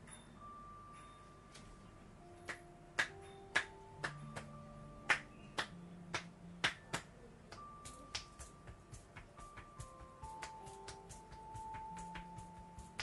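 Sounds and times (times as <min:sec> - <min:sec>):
soft background music: 0:00.0 - 0:13.0
hand strikes clapping on skin: 0:02.4 - 0:13.0.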